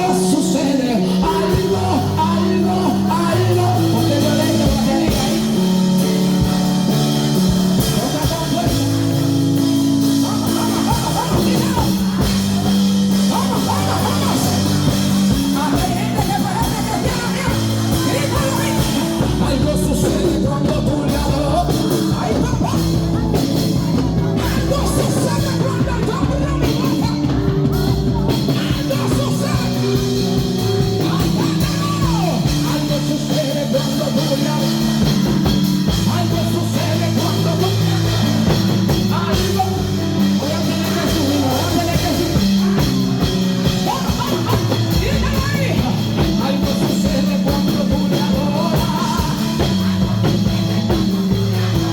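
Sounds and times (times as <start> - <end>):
person singing: 0.0 - 51.9
worship band playing held chords: 0.0 - 51.9.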